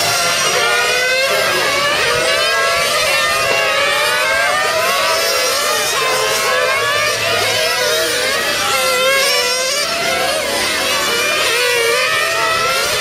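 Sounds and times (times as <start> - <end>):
model car engines whining: 0.0 - 13.0.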